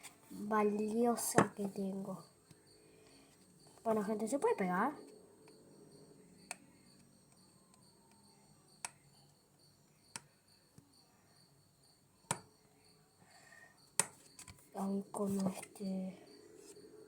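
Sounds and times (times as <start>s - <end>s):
faint high-pitched tone: 0.3s - 13.8s, 14.4s - 17.0s.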